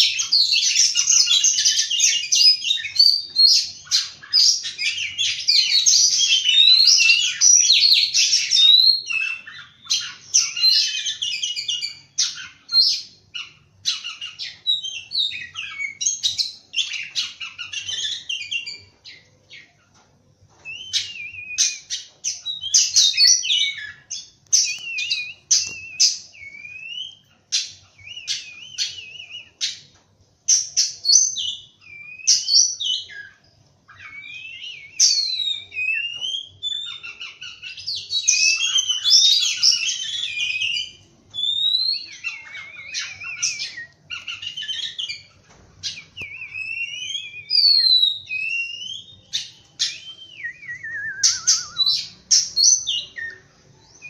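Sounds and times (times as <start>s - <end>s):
bird singing whistles and trills: 0.0s - 19.8s, 20.6s - 29.9s, 30.5s - 54.0s.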